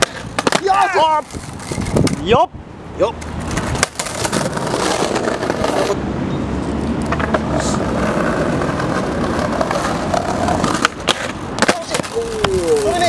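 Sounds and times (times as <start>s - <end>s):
wheels rumbling on paving: 0.0s - 13.0s.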